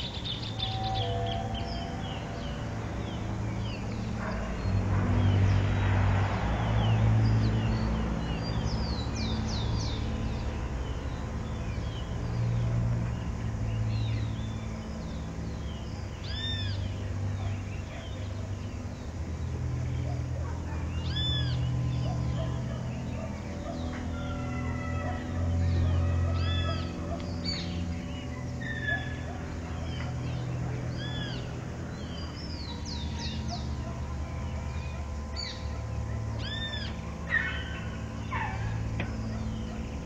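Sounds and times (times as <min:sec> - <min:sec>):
birds chirping: 0:00.0 - 0:40.0
low droning hum: 0:00.0 - 0:40.0
rising and falling bird calls: 0:00.0 - 0:40.0.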